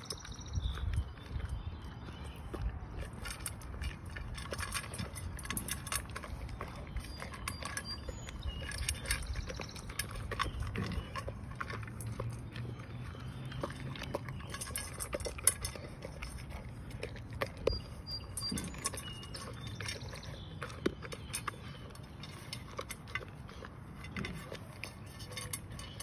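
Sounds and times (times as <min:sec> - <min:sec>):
dog crunching kibble: 0:00.0 - 0:26.0
teeth clicking on metal bowl: 0:00.0 - 0:26.0.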